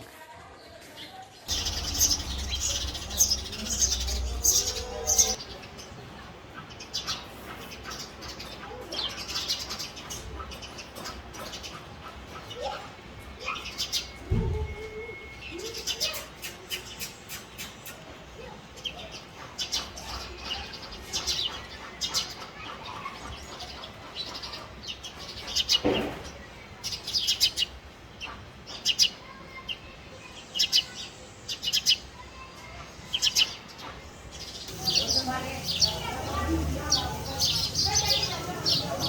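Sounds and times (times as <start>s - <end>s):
sparrows chirping: 1.4s - 39.0s.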